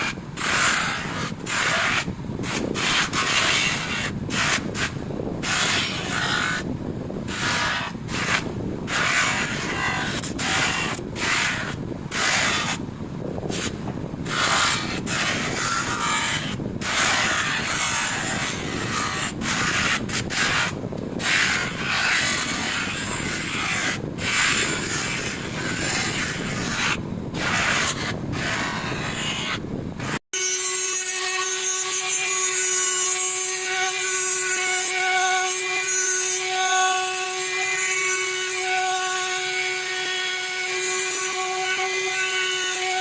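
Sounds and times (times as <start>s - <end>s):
power polisher rubbing metal: 0.0s - 6.7s, 7.3s - 12.8s, 13.5s - 43.0s.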